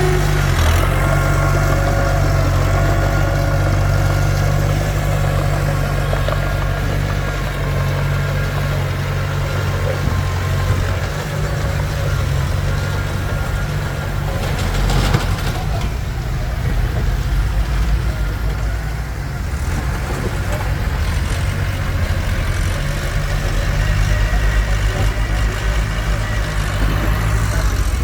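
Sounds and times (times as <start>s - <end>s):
bulldozer diesel engine running: 0.0s - 28.0s
engine clatter: 0.0s - 28.0s.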